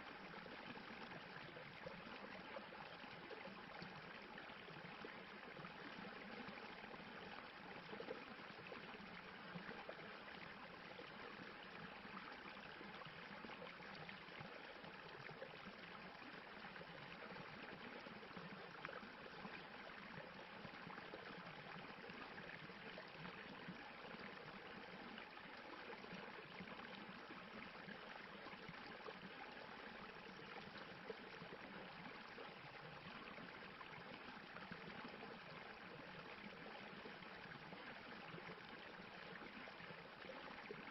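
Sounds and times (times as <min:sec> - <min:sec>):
stream water over rocks: 0:00.0 - 0:40.9.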